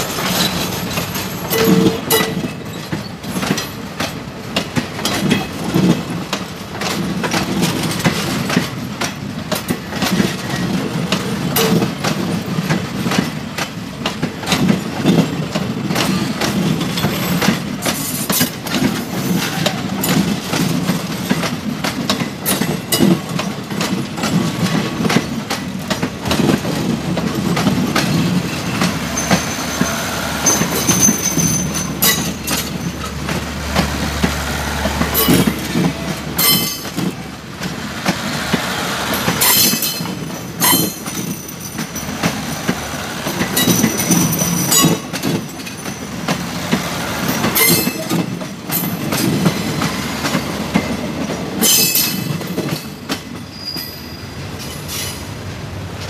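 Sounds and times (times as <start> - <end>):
low train rumble: 0.0 - 56.0
train wheels clacking on track: 0.0 - 56.0.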